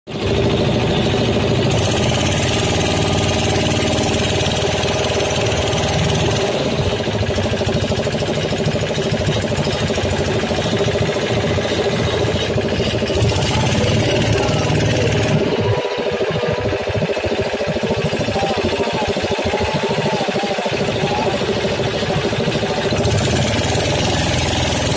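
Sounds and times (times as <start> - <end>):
boat motor running with rapid knocking: 0.1 - 24.9.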